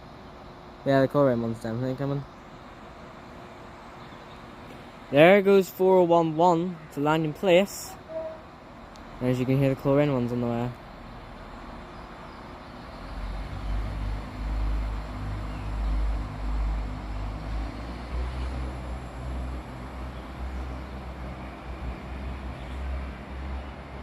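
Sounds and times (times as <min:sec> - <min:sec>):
diesel train engine rumbling: 0:00.0 - 0:24.0.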